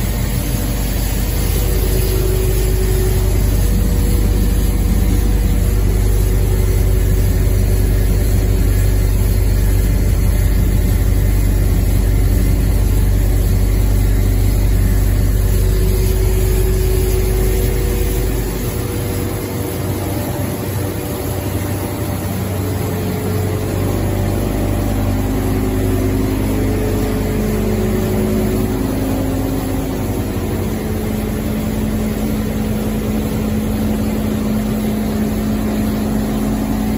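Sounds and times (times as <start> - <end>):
machine droning with deep hum: 0.0 - 36.9.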